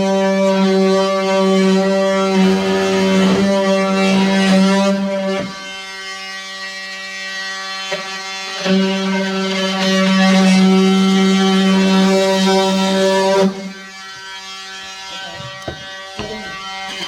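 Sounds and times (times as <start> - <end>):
oscillating multi-tool buzzing: 0.0 - 17.0.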